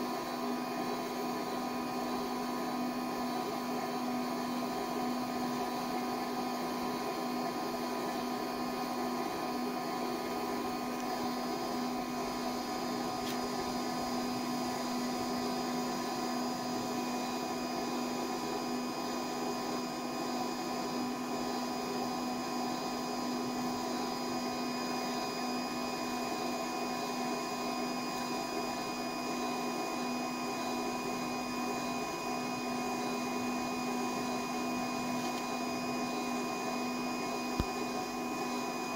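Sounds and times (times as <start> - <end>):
motor humming: 0.0 - 38.9.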